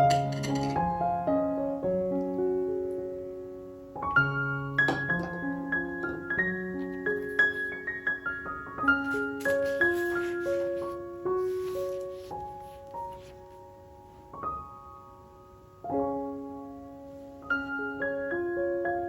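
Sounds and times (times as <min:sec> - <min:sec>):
solo piano music: 0:00.0 - 0:19.0.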